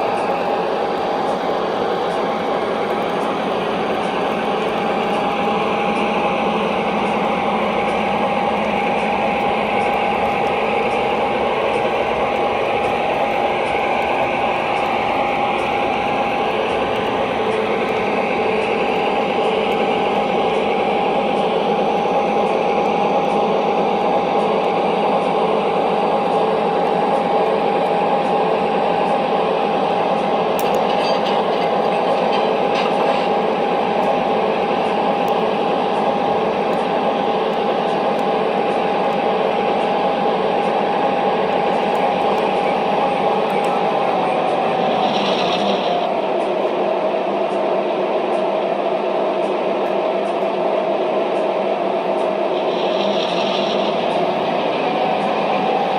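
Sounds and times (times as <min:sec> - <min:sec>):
locomotive rumbling drone: 0:00.0 - 0:55.9
locomotive whine: 0:00.0 - 0:55.9.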